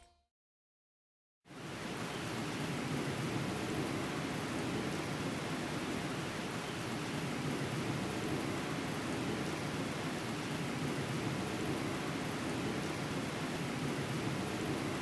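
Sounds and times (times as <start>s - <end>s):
steady rain: 1.5s - 15.0s.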